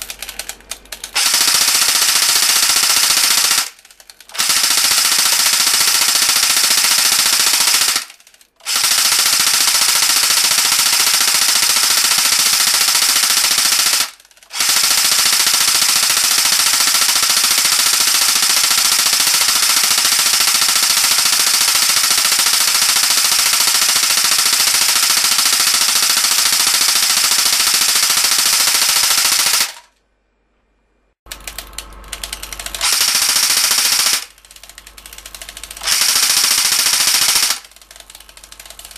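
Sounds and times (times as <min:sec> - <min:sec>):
airsoft gun firing full-auto: 0:00.0 - 0:29.9, 0:32.2 - 0:38.9.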